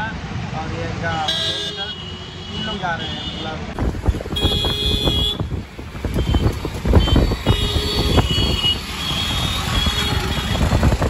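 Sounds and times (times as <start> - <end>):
rumble of vehicle and traffic: 0.0 - 11.0.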